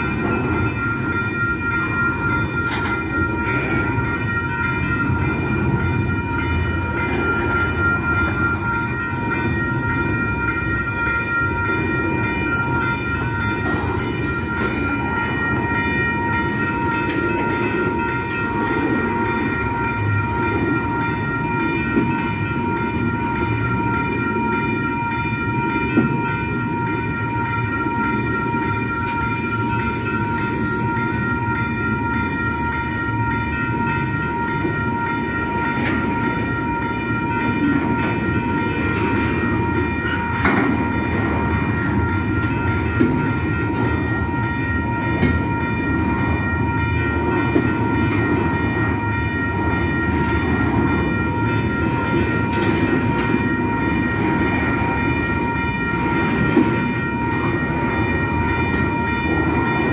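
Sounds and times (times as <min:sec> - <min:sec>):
high-pitched ringing tone: 0:00.0 - 0:59.9
train wheels rumbling on rails: 0:00.0 - 0:59.9.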